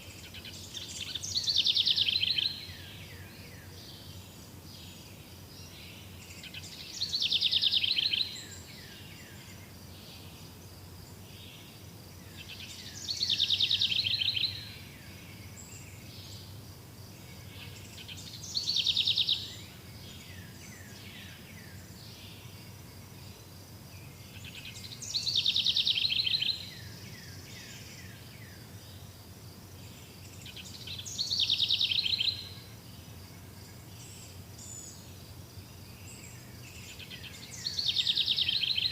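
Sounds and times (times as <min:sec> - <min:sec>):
faint outdoor hiss: 0:00.0 - 0:38.9
songbird singing with trill: 0:00.0 - 0:38.9.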